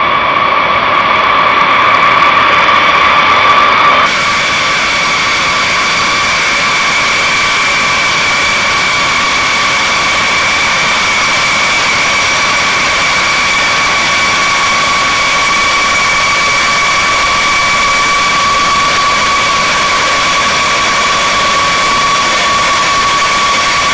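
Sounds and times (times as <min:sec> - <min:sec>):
jet engines whining: 0:00.0 - 0:23.9.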